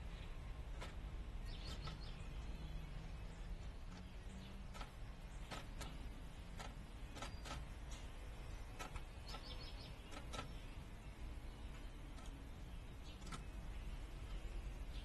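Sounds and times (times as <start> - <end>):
steady low rumble: 0.0 - 15.0
bird chip calls: 1.4 - 15.0.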